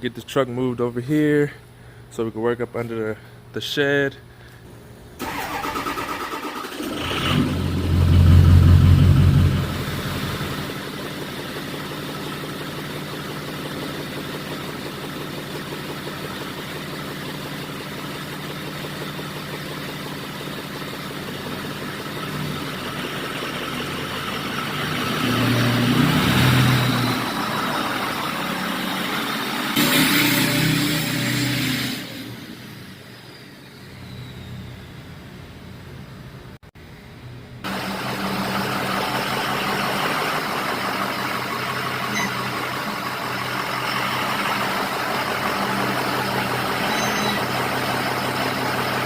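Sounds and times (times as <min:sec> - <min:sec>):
diesel truck engine running: 0:05.2 - 0:36.6, 0:37.6 - 0:49.0.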